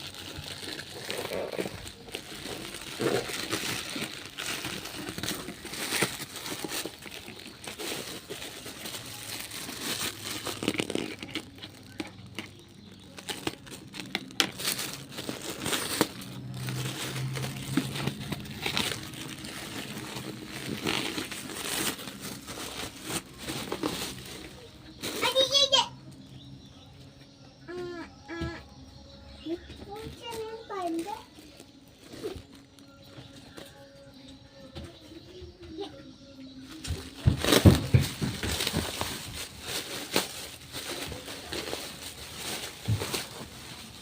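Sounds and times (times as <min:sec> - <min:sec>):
packaging crinkling and rustling: 0:00.0 - 0:25.5, 0:30.0 - 0:33.8, 0:36.8 - 0:44.0.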